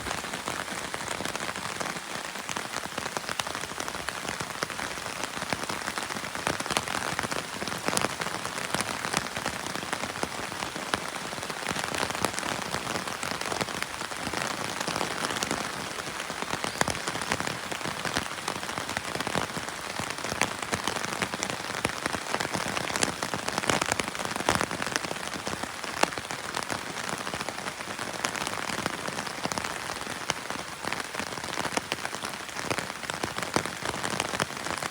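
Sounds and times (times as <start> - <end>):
steady rain pattering: 0.0 - 34.9.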